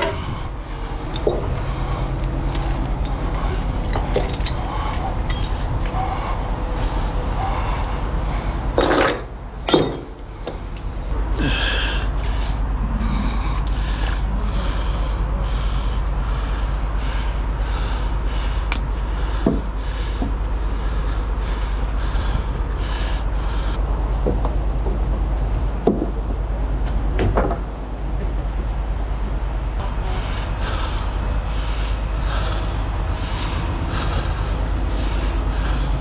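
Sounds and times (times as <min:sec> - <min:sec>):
diesel truck engine idling: 0:00.0 - 0:23.8, 0:28.7 - 0:36.0.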